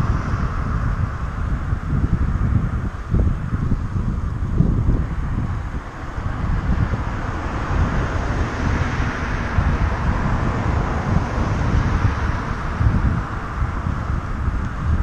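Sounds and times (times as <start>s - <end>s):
car passing with tyre noise: 0.0s - 15.0s
wind buffeting microphone: 0.0s - 15.0s.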